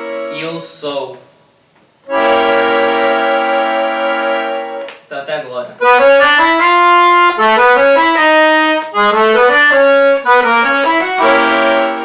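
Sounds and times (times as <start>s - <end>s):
piano accordion melody: 0.0s - 0.7s, 2.1s - 5.0s, 5.8s - 12.0s.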